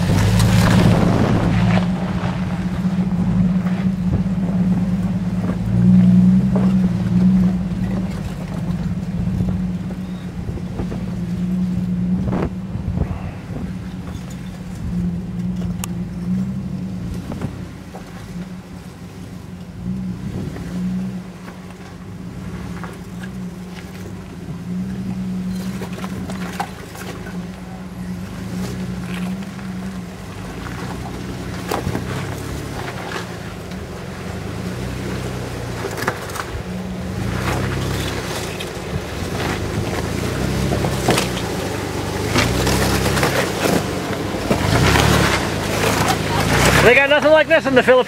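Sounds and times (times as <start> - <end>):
rocks crunching under tyres: 0.0 - 18.9, 19.6 - 48.0
engine running at low revs: 0.0 - 48.0.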